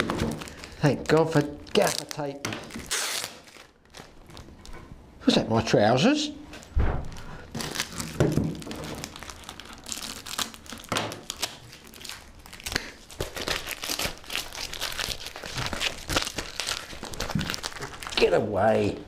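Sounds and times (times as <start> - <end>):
plastic wrapping crinkling and tearing: 0.0 - 4.8, 7.0 - 18.9.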